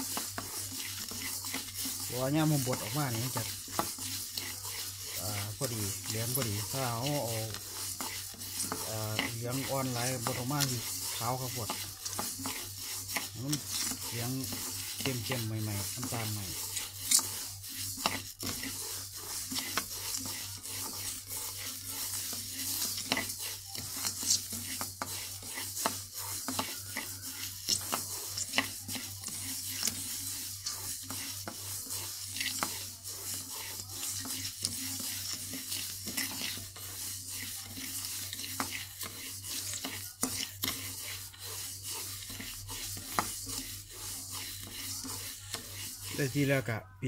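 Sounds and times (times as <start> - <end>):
spatula scraping rice in wok: 0.0 - 46.7.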